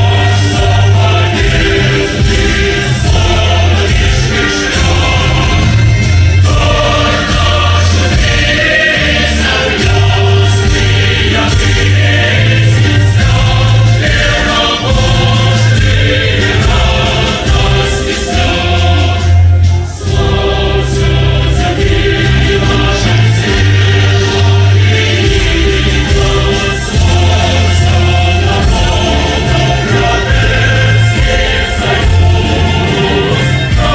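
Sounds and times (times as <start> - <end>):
choir singing: 0.0 - 33.9
musical accompaniment: 0.0 - 33.9.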